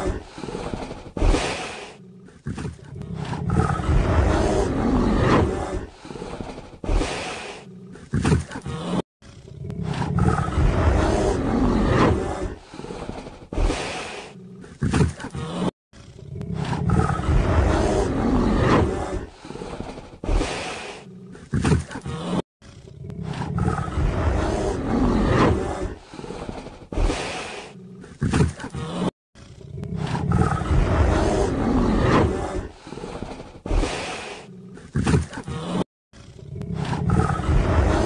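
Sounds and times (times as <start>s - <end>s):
polar bear growling and roaring: 0.0s - 38.0s.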